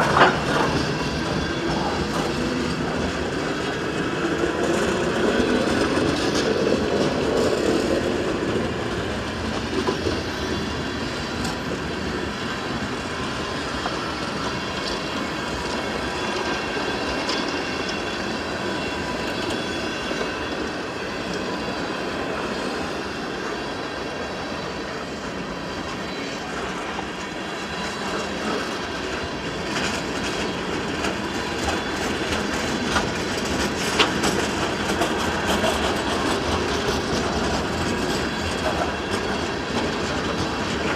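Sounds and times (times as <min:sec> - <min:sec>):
train cars rolling: 0:00.0 - 0:40.9.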